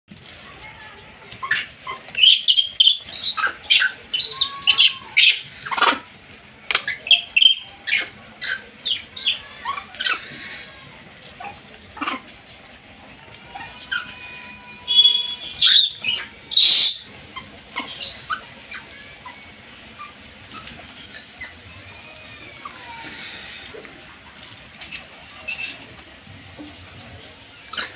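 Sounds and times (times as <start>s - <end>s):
monkeys squeaking and chirping: 1.4s - 6.1s, 6.7s - 23.8s, 24.4s - 26.8s, 27.5s - 27.9s.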